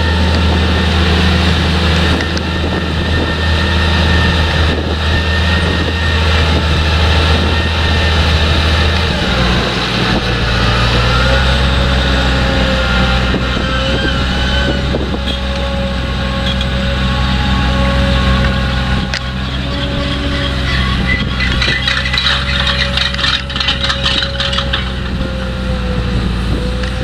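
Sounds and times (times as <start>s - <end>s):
diesel farm machinery engine: 0.0s - 27.0s
machinery whining: 0.0s - 27.0s.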